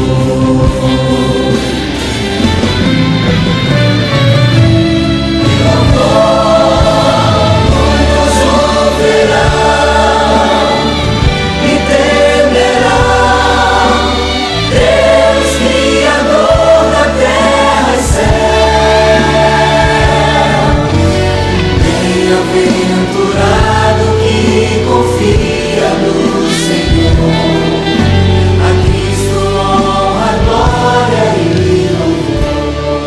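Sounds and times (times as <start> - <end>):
choir singing with accompaniment: 0.0 - 33.0.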